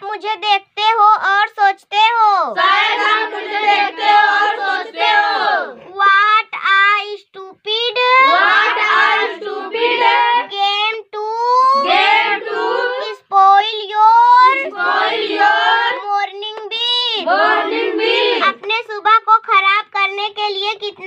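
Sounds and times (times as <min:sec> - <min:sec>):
girl reciting in sing-song voice: 0:00.0 - 0:21.0.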